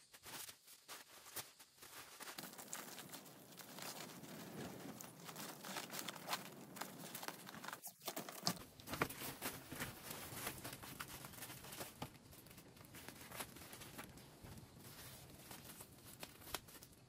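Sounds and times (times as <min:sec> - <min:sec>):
plastic tarp crinkling: 0:00.2 - 0:17.0.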